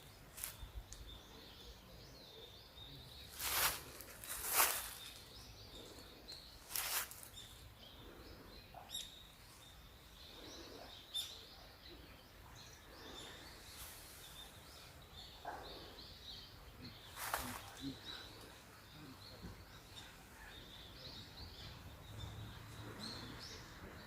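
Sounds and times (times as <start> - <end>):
small birds chirping: 0.0 - 24.0
steady low outdoor hiss: 0.0 - 24.0.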